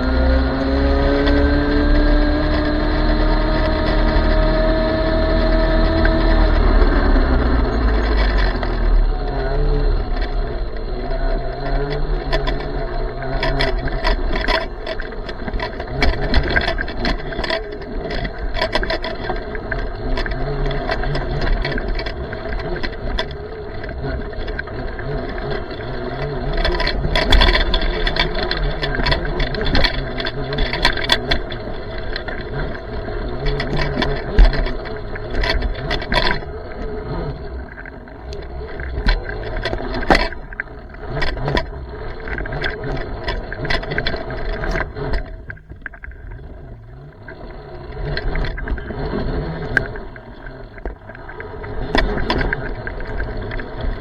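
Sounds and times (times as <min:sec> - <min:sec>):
electric motorcycle motor hum: 0:00.0 - 0:54.0
rattles clicks and knocks: 0:00.0 - 0:54.0.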